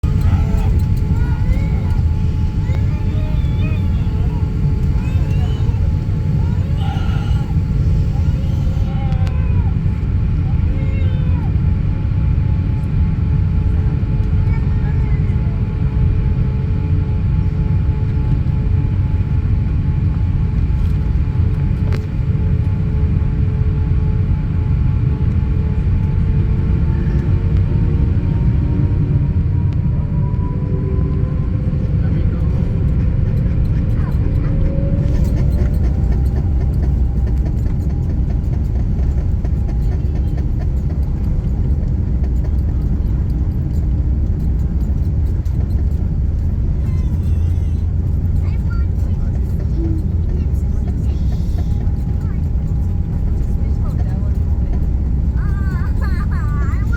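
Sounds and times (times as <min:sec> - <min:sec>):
aircraft cabin rumble: 0:00.0 - 0:56.9.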